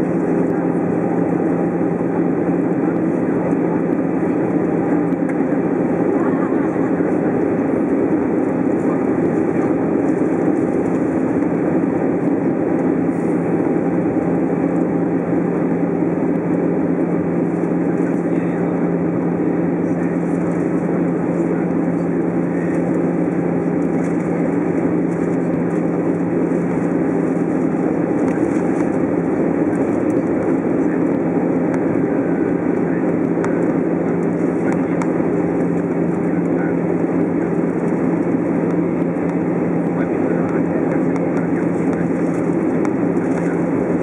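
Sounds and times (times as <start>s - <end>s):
airplane cabin engine rush: 0.0s - 44.0s
constant low hum: 0.0s - 44.0s.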